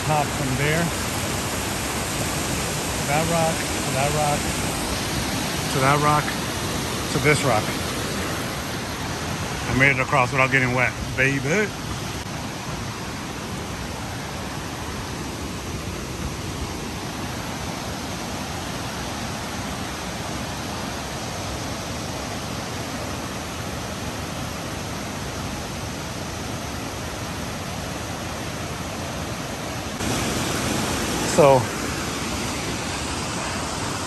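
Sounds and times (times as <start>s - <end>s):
river water rushing over boulders: 0.0s - 34.0s
waterfall: 0.0s - 34.0s.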